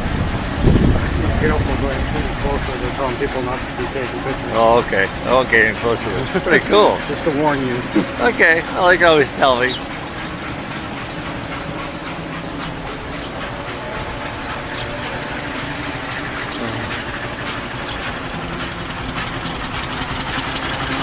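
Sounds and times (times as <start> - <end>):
old car engine running: 0.0 - 21.0.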